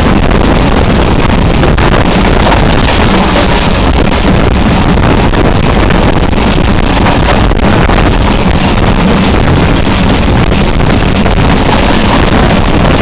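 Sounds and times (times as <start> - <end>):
train wheels rumbling on rails: 0.0 - 13.0
wind buffeting microphone: 0.0 - 13.0.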